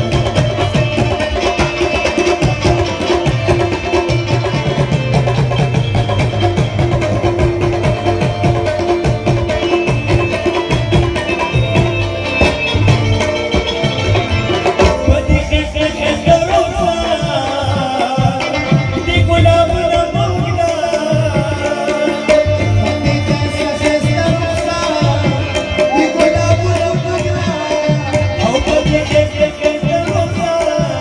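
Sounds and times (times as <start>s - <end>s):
rubab melody: 0.0s - 31.0s
tabla rhythm: 0.0s - 31.0s.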